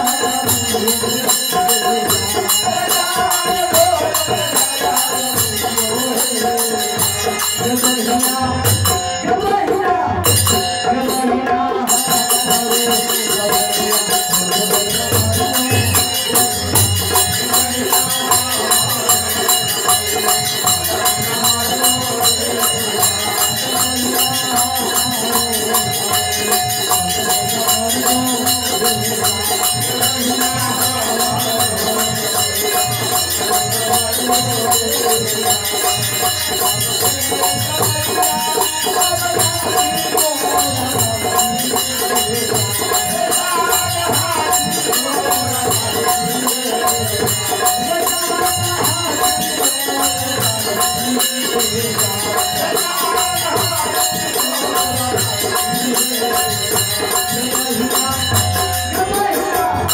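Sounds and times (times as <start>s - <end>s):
jingling metal percussion: 0.0s - 59.9s.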